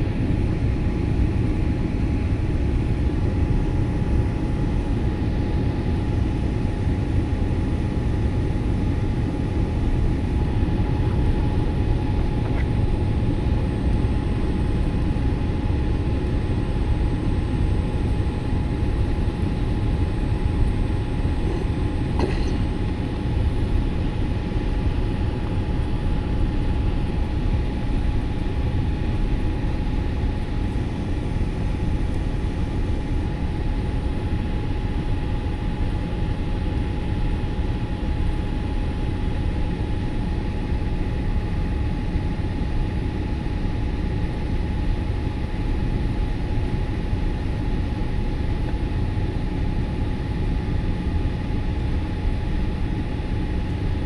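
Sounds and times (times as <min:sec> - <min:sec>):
low rumble of jet engines: 0:00.0 - 0:54.0
thin steady whine: 0:00.0 - 0:54.0.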